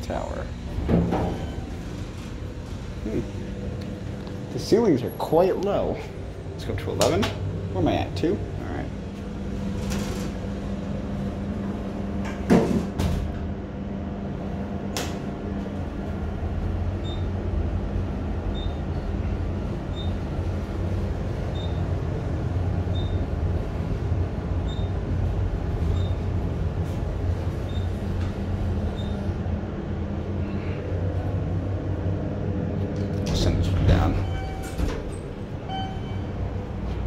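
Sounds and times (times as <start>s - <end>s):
elevator hoist machine hum: 0.0s - 37.0s
elevator doors clunking: 0.1s - 7.8s, 8.4s - 37.0s.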